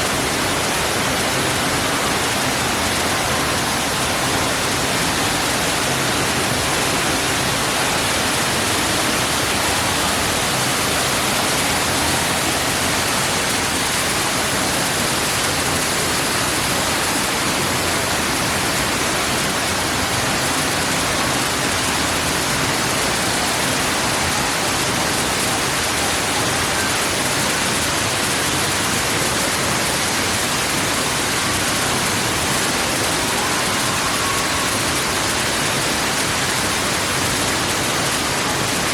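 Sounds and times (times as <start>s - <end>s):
waterfall rushing into pool: 0.0s - 38.9s.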